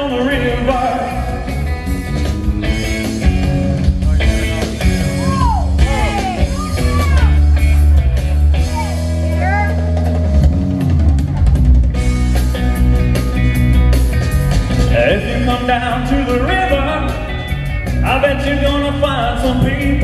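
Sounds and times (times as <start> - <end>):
bass guitar: 0.0 - 20.0
drum kit: 0.0 - 20.0
electric guitar bending notes: 0.0 - 20.0.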